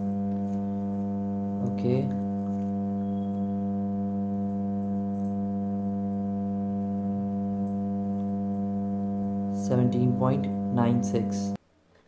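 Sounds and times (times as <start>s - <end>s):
transformer humming: 0.0s - 11.6s.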